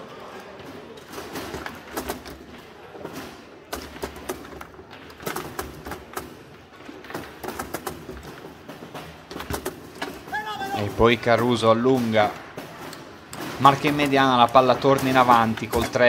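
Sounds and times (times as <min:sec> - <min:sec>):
foosball clacks and knocks: 0:01.0 - 0:16.0.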